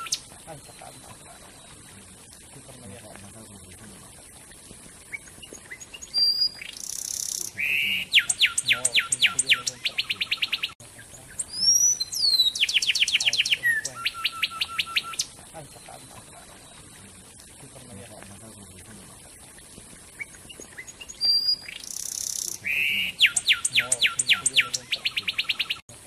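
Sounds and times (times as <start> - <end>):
wren singing: 0.0 - 4.0, 5.0 - 18.6, 20.2 - 25.8.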